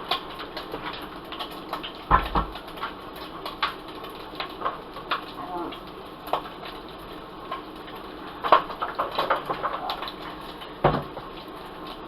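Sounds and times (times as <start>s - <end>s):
vegetables frying in oil: 0.0s - 12.0s.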